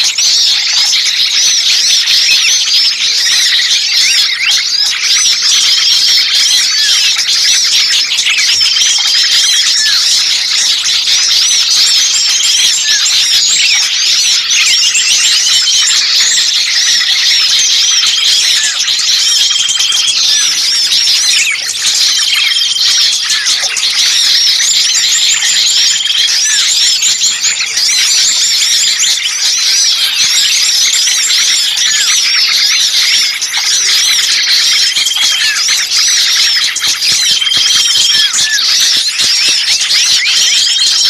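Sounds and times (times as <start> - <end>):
small birds chirping chorus: 0.0 - 41.0.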